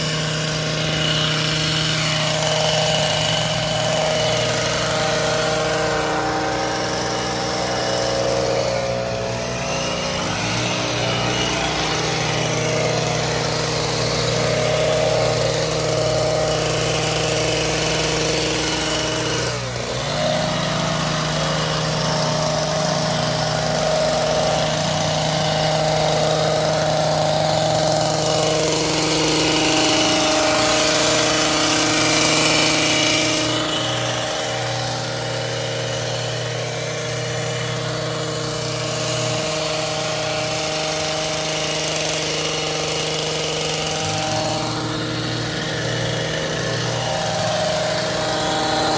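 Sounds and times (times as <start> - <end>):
hedge trimmer engine running: 0.0 - 48.9.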